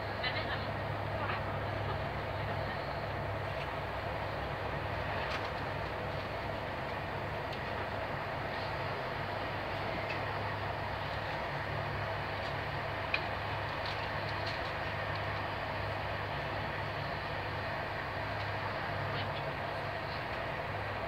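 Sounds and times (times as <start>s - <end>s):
train wheels rolling on rail: 0.0s - 21.0s.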